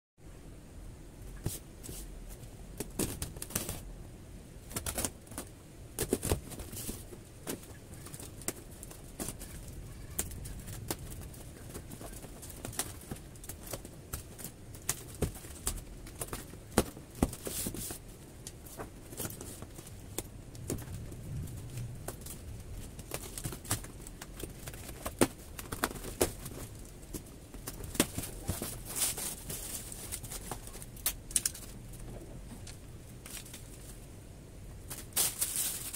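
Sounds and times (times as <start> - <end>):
plastic rustling: 4.6 - 34.0, 34.8 - 35.9.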